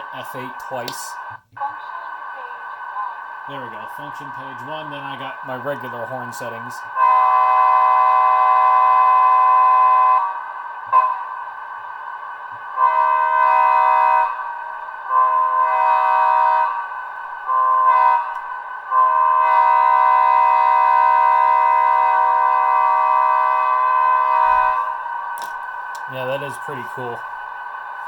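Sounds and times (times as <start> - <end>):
model train engine sound: 0.0 - 28.0
diesel air horn blasts: 3.5 - 11.3, 12.6 - 27.6.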